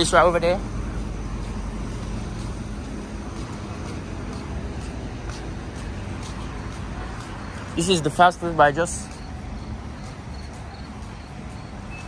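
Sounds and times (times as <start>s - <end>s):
car engines idling: 0.0s - 12.0s
traffic rumble: 0.0s - 12.0s.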